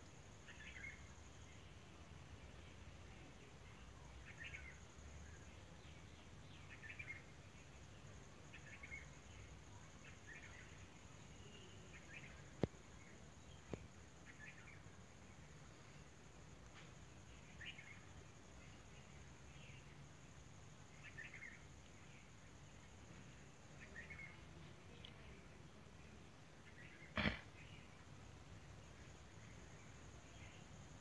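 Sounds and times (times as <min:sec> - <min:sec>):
faint bird chirps: 0:00.0 - 0:31.0.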